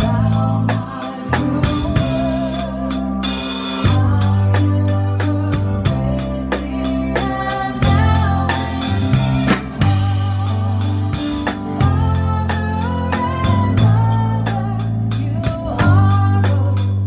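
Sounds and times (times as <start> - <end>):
drum kit steady beat: 0.0 - 17.0
sustained bass notes: 0.0 - 17.0.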